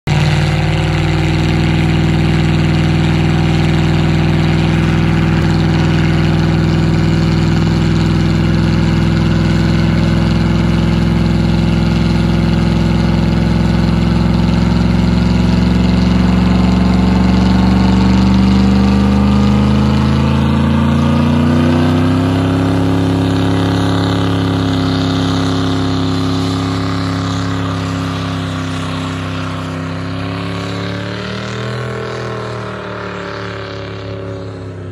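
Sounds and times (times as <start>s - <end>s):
engine revving in a burnout: 0.1s - 34.9s.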